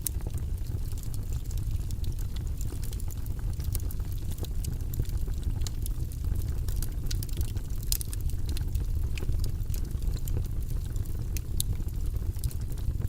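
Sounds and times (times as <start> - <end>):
low rumble of fire: 0.0 - 13.0
wood fire crackling: 0.0 - 13.0.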